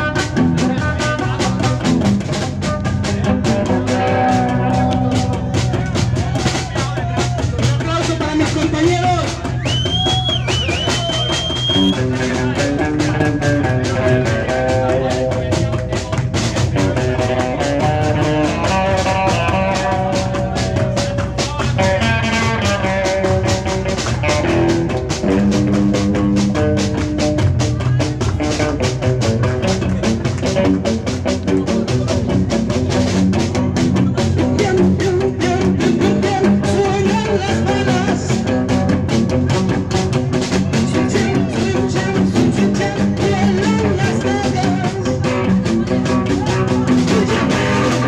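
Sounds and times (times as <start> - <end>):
melodic electric guitar line: 0.0 - 6.2, 11.0 - 48.0
plucked double bass notes: 0.0 - 9.6, 10.2 - 48.0
drum kit beat: 0.0 - 48.0
live band playing: 0.0 - 48.0.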